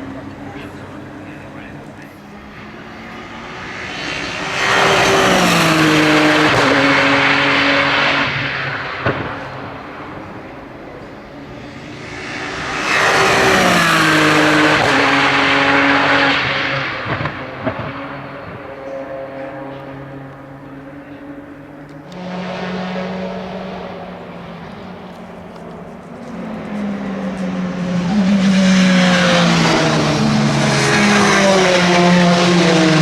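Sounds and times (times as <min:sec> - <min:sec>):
racing cars passing at speed: 0:00.0 - 0:33.0.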